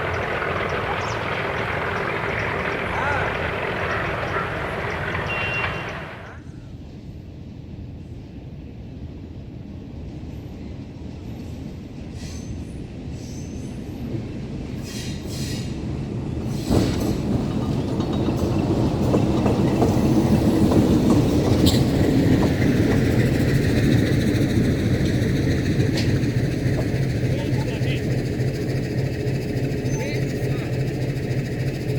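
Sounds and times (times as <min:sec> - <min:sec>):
train wheels squealing: 0:00.0 - 0:06.7, 0:10.2 - 0:31.9
train rumble: 0:00.0 - 0:31.9.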